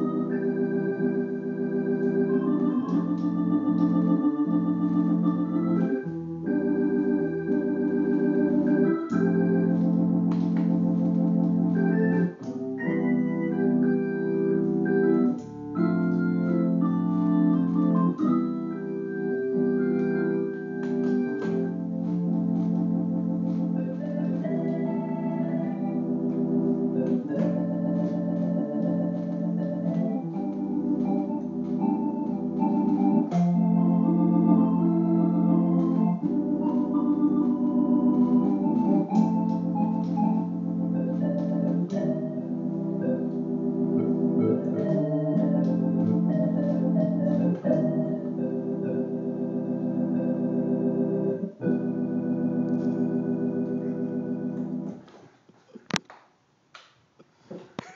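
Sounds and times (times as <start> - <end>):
electronic organ playing chords and melody: 0.0 - 55.2.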